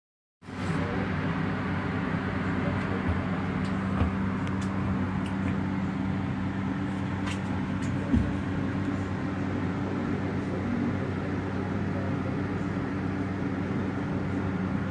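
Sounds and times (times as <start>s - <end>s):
ventilation machinery hum: 0.5s - 14.9s.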